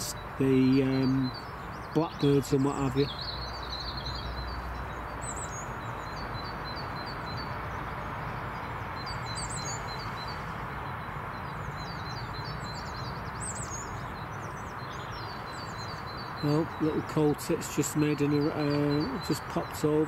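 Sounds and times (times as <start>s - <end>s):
outdoor background hiss: 0.0s - 20.0s
songbirds chirping: 0.0s - 20.0s.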